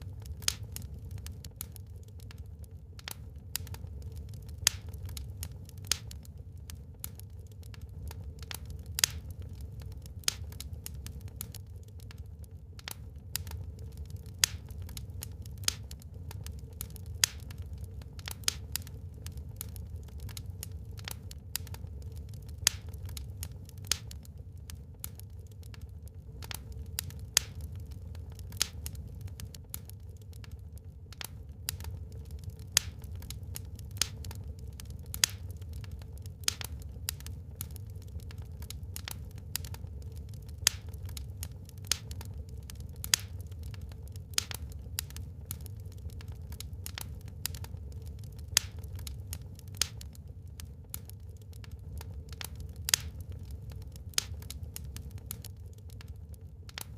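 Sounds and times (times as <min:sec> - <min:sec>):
low steady rumble: 0:00.0 - 0:56.9
wood fire crackling and popping: 0:00.0 - 0:56.9.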